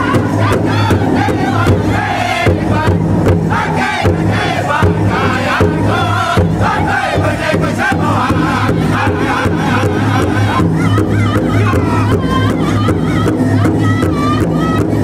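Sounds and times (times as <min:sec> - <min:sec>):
drum group singing in unison: 0:00.0 - 0:15.0
large hide drum beating: 0:00.0 - 0:15.0
women singing along: 0:00.0 - 0:15.0.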